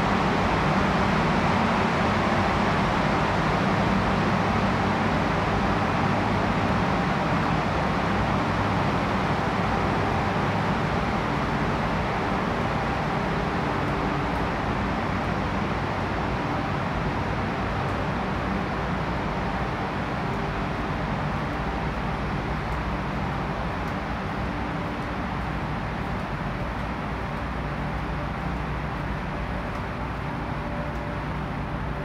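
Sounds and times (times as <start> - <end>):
ship machinery drone: 0.0 - 32.0.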